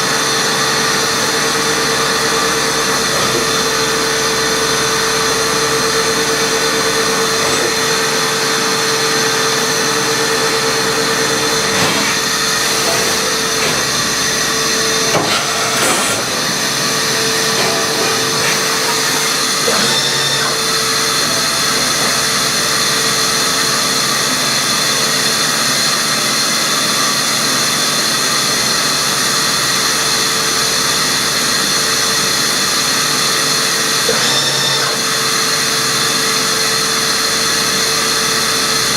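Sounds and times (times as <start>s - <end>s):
machine hum with high whines: 0.0s - 38.9s.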